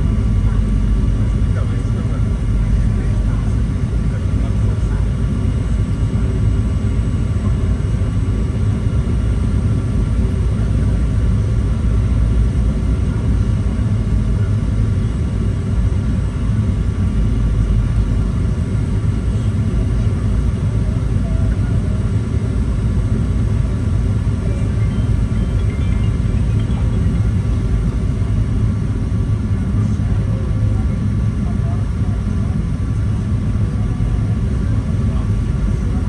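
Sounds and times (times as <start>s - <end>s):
airplane cabin rumble: 0.0s - 36.0s
faint steady tones: 0.0s - 36.0s.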